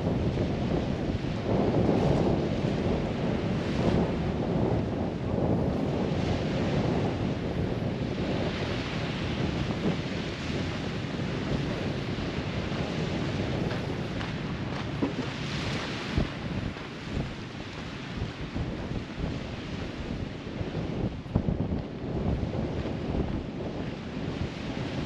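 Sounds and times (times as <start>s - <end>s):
waves washing onto beach: 0.0s - 25.0s
wind buffeting microphone: 0.0s - 25.0s.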